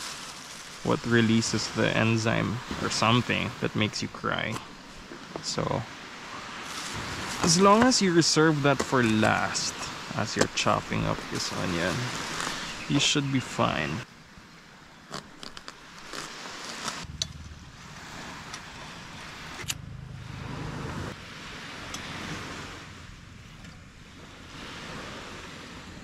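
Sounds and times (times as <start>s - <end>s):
surf rushing: 0.0s - 14.1s, 15.8s - 26.0s
wind: 0.0s - 26.0s.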